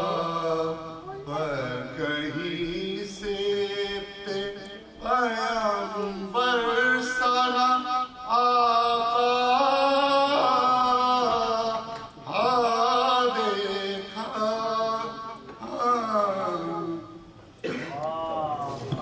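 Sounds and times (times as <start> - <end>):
man chanting unaccompanied: 0.0 - 19.0.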